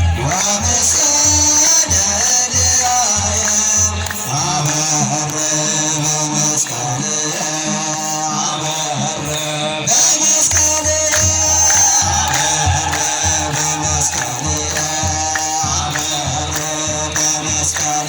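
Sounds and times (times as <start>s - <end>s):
group chanting: 0.0s - 18.0s.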